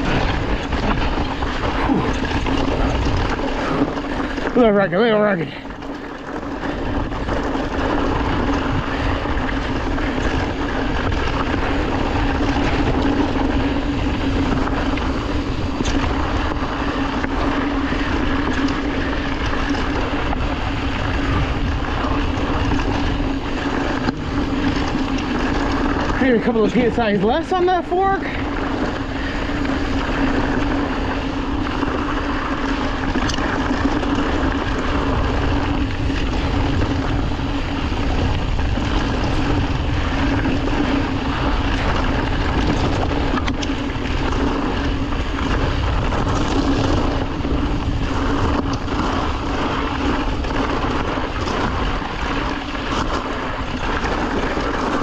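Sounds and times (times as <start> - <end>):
bike knocks and rattles: 0.0 - 27.5, 28.4 - 55.0
bike tyre rumble: 0.0 - 55.0
constant hum: 0.0 - 55.0
wind on microphone: 0.0 - 55.0.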